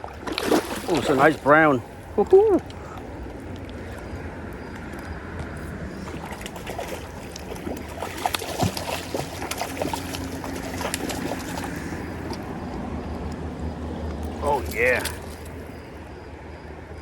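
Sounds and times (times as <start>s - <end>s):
water splashing: 0.0s - 13.4s, 14.0s - 15.6s
river water running: 0.0s - 17.0s.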